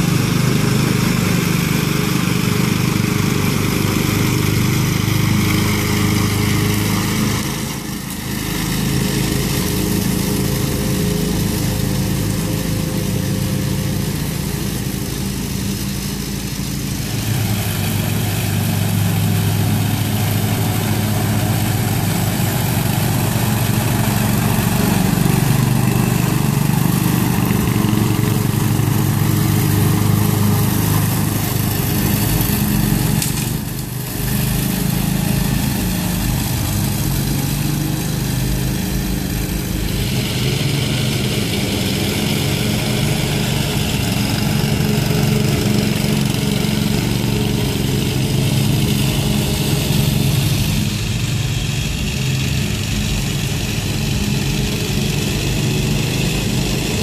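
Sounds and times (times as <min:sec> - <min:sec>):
push mower engine: 0:00.0 - 0:57.0
riding lawn mower engine: 0:00.0 - 0:57.0.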